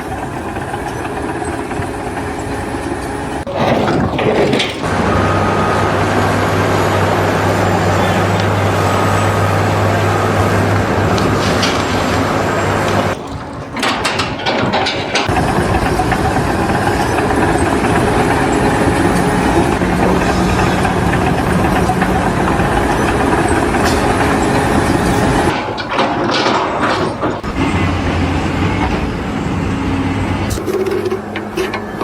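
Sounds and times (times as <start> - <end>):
large engine running: 0.0 - 32.0.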